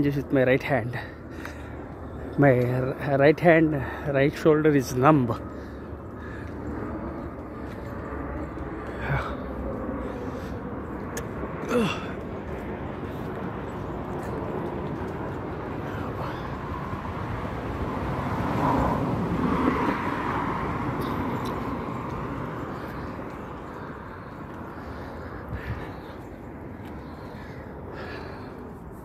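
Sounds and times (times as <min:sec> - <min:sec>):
vehicle passing by: 0:00.4 - 0:29.0.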